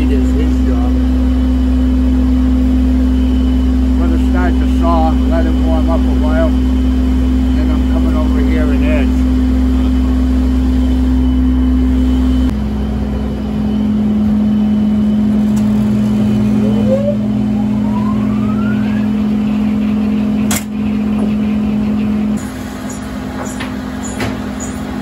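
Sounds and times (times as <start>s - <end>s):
engine running: 0.0s - 25.0s
faint rising whine: 0.1s - 20.5s.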